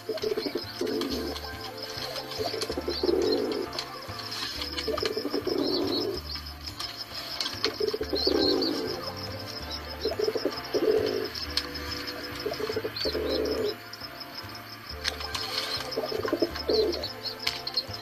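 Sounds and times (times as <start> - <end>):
pigeons cooing: 0.0 - 13.8, 15.0 - 18.0
small birds chirping: 0.0 - 18.0.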